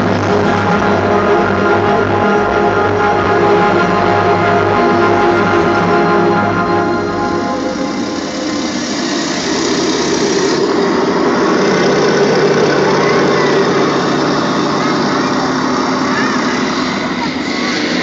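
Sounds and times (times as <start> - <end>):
rumbling noise from sound system: 0.0 - 18.0.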